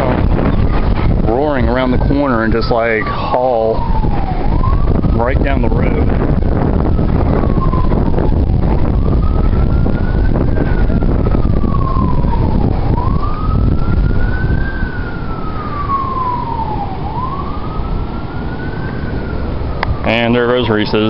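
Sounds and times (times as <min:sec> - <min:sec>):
siren wailing: 0:00.0 - 0:21.0
wind rumble on microphone: 0:00.0 - 0:21.0.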